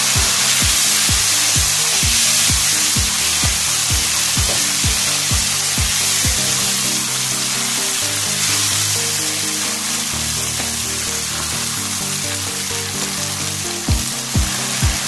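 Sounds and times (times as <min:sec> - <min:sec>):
background music with beat: 0:00.0 - 0:15.0
sauce sizzling in a frying pan: 0:00.0 - 0:15.0.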